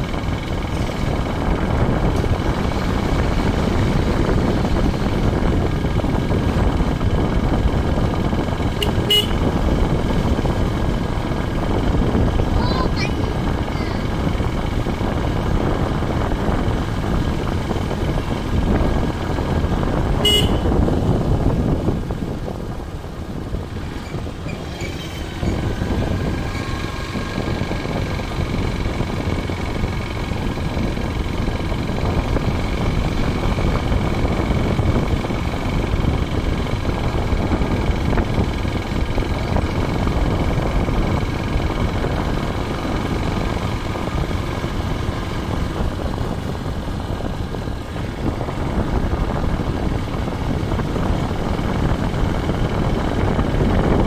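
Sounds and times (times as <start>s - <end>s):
motorcycle engine hum: 0.0s - 54.0s
wind rushing on microphone: 0.0s - 54.0s.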